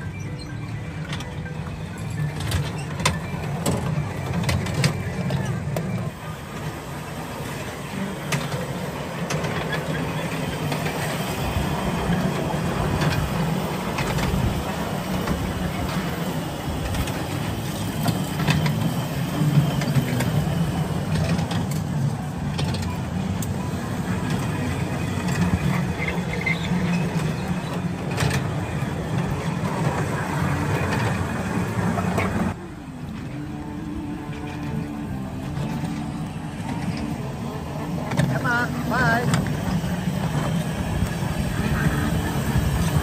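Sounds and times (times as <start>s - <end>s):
miniature train rumbling: 0.0s - 43.0s.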